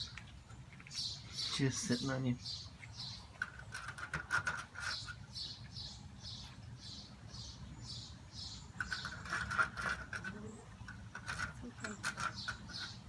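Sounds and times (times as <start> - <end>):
bird chirping: 0.0 - 3.8, 4.8 - 13.0.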